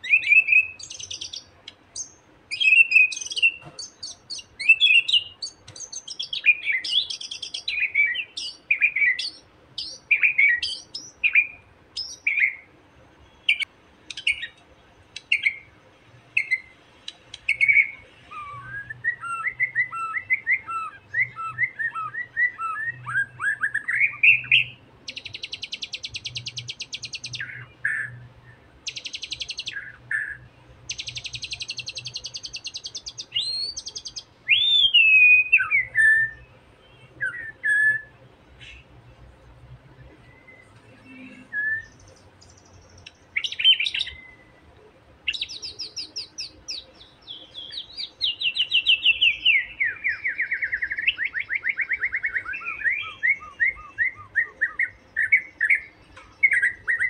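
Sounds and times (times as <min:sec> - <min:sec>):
bird singing whistled phrases: 0:00.0 - 0:12.7, 0:17.5 - 0:28.2, 0:28.8 - 0:38.8, 0:40.3 - 0:44.5, 0:45.3 - 0:57.0.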